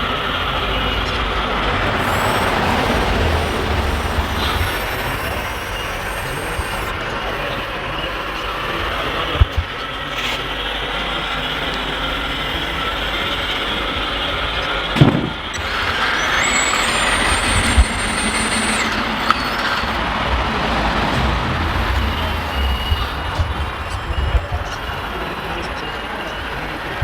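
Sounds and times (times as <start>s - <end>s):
model machines mechanical whirr: 0.0s - 27.0s
thin high whine: 0.0s - 27.0s.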